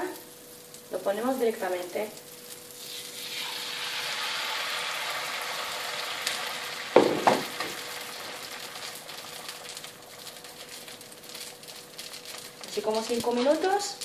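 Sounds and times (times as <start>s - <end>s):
batter sizzling in a frying pan: 0.0s - 14.0s.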